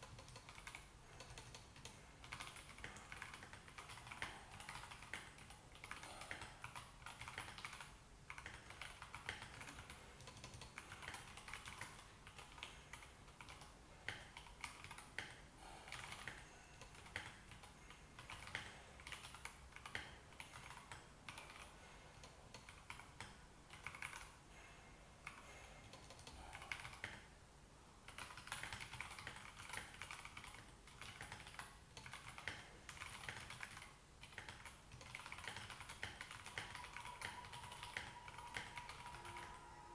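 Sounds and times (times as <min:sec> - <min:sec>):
mechanical keyboard typing: 0:00.0 - 0:24.4, 0:25.2 - 0:27.3, 0:28.1 - 0:39.9.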